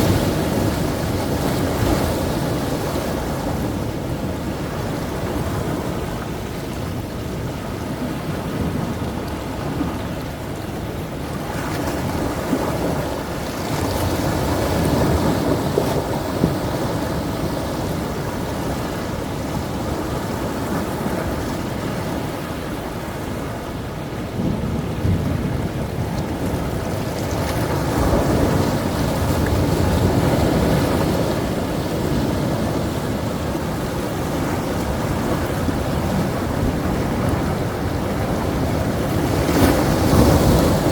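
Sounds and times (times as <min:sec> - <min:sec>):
rough sea waves breaking: 0:00.0 - 0:40.9.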